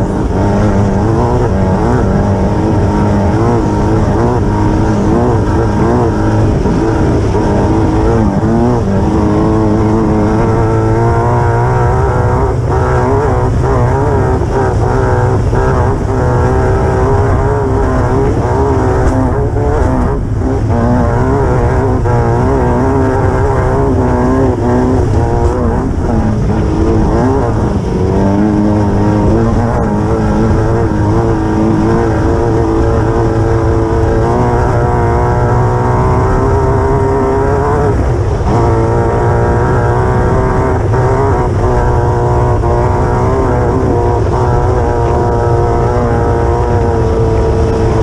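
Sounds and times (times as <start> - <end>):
buggy engine running hard: 0.0 - 48.0
wind roar: 0.0 - 48.0.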